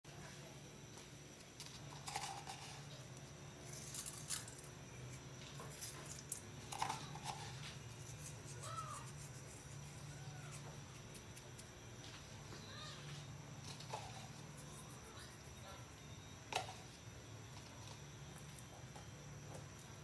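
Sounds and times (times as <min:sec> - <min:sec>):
low steady hum: 0:00.1 - 0:20.0.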